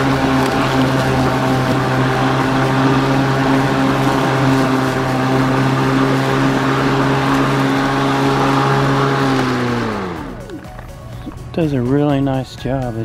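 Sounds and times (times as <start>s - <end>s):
electric lawn mower humming: 0.0s - 11.5s.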